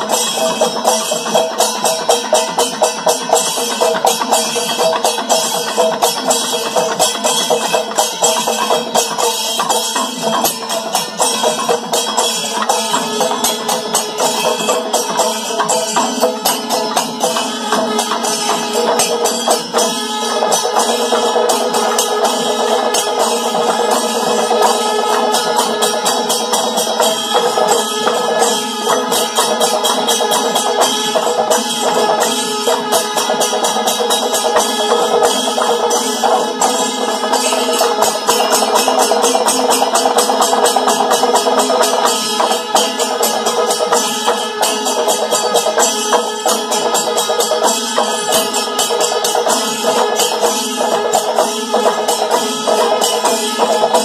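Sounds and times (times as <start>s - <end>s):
drums beaten with sticks: 0.0s - 54.0s
metallic jingling cymbals: 0.0s - 54.0s.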